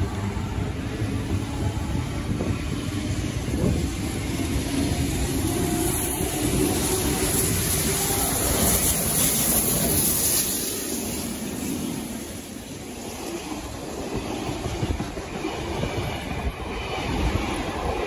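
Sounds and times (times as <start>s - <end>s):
train wheels clattering on rails: 2.3s - 18.0s.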